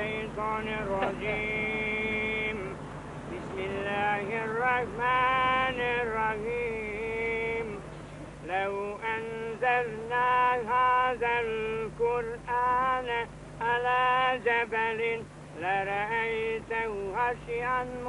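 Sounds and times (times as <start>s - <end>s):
man chanting melodically: 0.0s - 18.0s
steady low hum: 0.0s - 18.0s.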